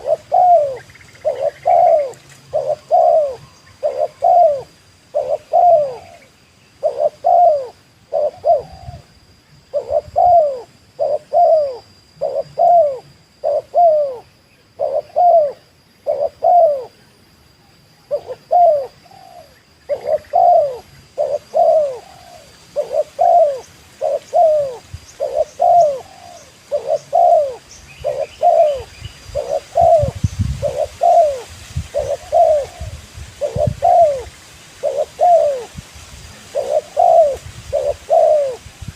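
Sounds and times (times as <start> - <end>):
dove cooing: 0.0 - 9.1, 9.7 - 17.0, 18.0 - 38.9.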